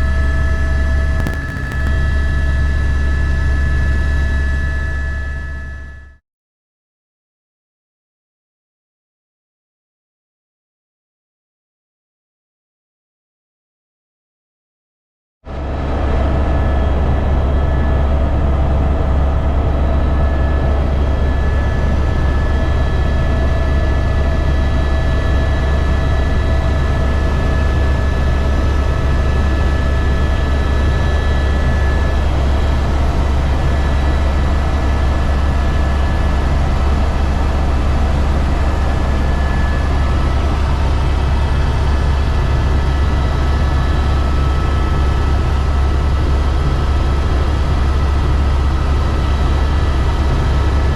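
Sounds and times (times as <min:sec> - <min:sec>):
helicopter drone: 0:00.0 - 0:06.0, 0:15.5 - 0:50.9.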